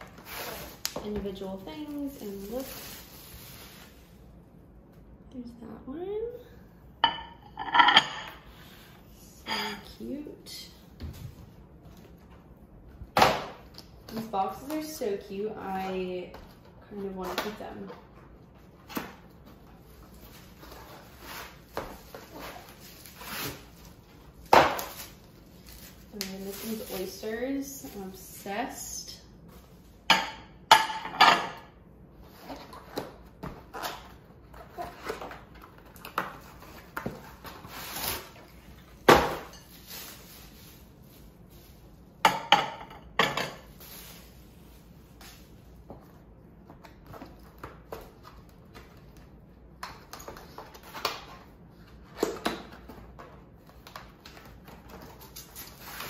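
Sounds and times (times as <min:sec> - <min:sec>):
bubble wrap and cardboard rustling: 0:00.0 - 0:04.5, 0:09.9 - 0:30.0, 0:32.1 - 0:42.3, 0:43.6 - 0:56.0
faint air conditioner hum: 0:00.0 - 0:56.0.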